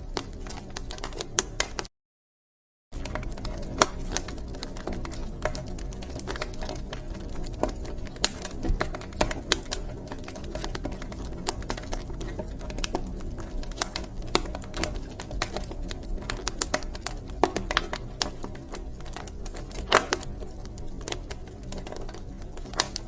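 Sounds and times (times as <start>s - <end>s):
low rumble of burning logs: 0.0s - 1.9s, 3.0s - 23.0s
wood fire crackling: 0.0s - 1.9s, 2.9s - 23.0s.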